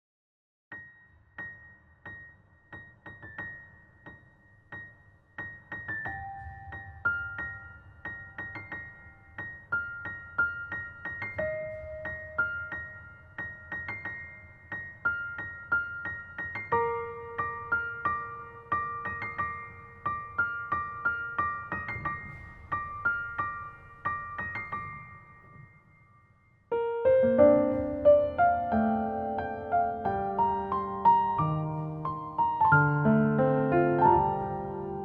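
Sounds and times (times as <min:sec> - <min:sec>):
slow keyboard melody: 0:00.7 - 0:35.0.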